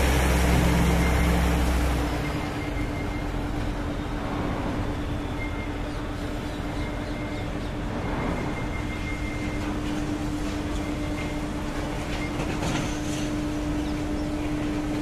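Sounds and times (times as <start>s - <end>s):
continuous rumbling: 0.0s - 15.0s.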